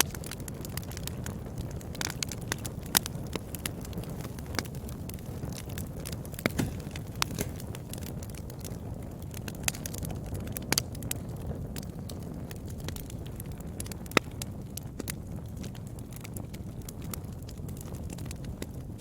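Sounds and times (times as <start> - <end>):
fire crackles and pops: 0.0 - 19.0
fire flames burning: 0.0 - 19.0.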